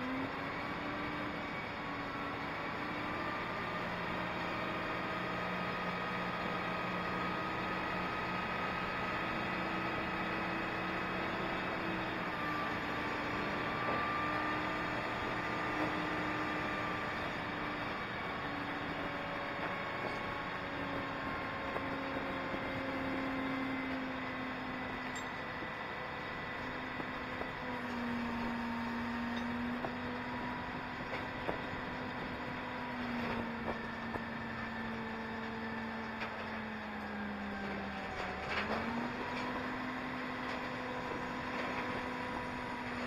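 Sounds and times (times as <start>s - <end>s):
crane diesel engine running: 0.0s - 43.0s
hydraulic whine: 0.0s - 43.0s.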